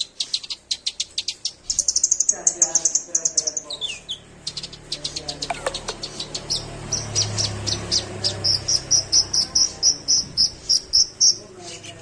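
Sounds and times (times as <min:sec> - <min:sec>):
sunbird singing high chips: 0:00.0 - 0:12.0.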